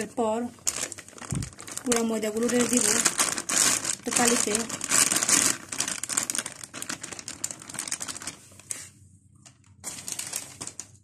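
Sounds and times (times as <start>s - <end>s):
paper packet crinkling: 0.6s - 11.0s.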